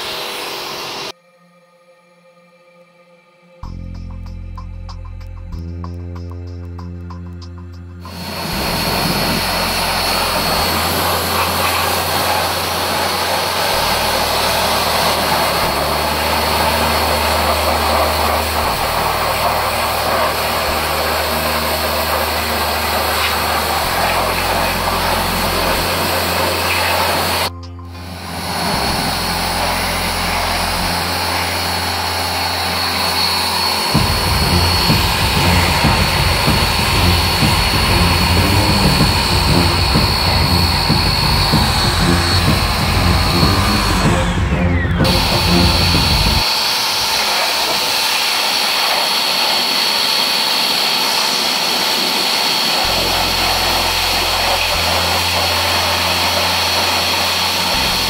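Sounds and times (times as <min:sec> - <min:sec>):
pressure washer jet hissing: 0:08.1 - 0:58.0.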